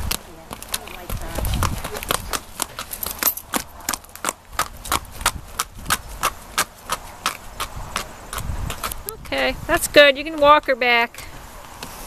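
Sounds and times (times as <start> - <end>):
horse hooves on pavement: 0.0 - 12.0.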